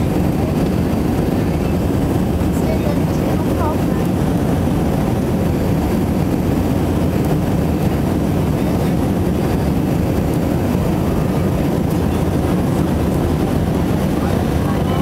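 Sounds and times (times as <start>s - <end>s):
jet engines rumbling in cabin: 0.0s - 15.0s
rushing air: 0.0s - 15.0s.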